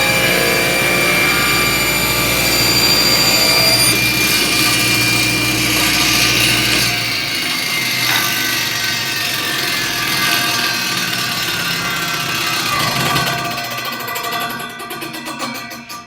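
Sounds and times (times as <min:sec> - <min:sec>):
table saw hum: 0:00.0 - 0:13.8
saw blade whine spinning down: 0:00.0 - 0:14.1.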